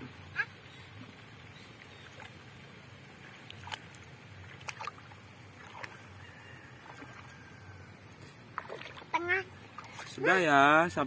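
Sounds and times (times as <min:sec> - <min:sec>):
low steady background rumble: 0:00.0 - 0:11.0
small splashes: 0:00.9 - 0:10.4
muddy water sloshing: 0:01.0 - 0:10.8.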